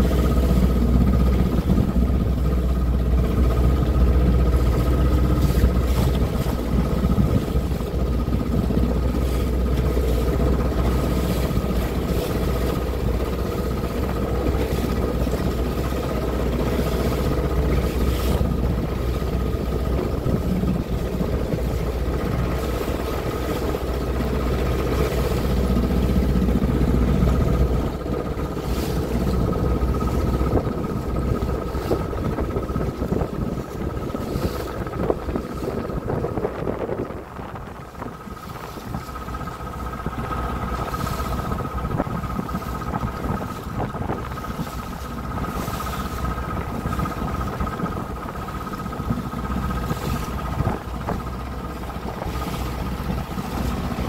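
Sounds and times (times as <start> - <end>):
boat engine running: 0.0 - 54.0
water rushing past hull: 0.0 - 54.0.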